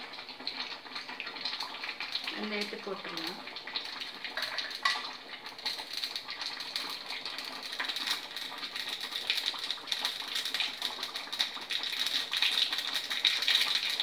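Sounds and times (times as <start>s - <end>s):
oil sizzling: 0.0s - 14.0s
seeds popping in hot oil: 0.0s - 14.0s.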